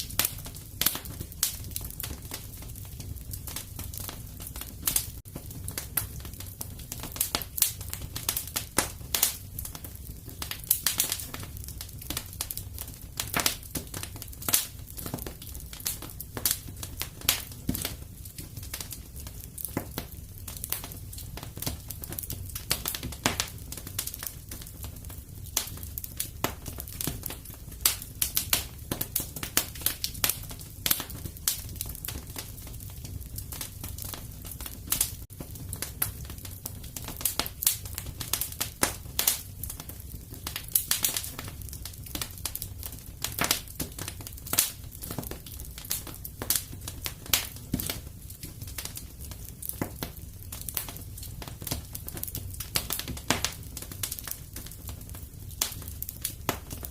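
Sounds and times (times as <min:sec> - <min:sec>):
low rumble of burning: 0:00.0 - 0:56.9
wood fire crackling and popping: 0:00.0 - 0:56.9.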